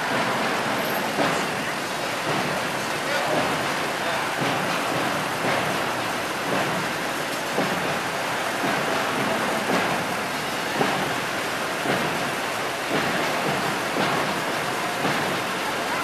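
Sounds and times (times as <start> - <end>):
crowd noise: 0.0 - 16.0
traffic noise: 0.0 - 16.0.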